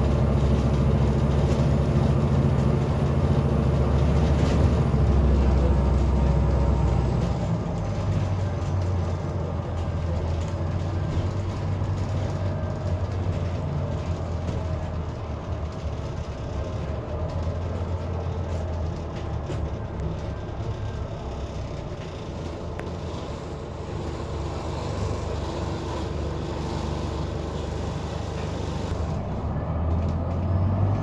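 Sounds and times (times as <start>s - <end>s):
bus engine at high revs: 0.0s - 31.0s.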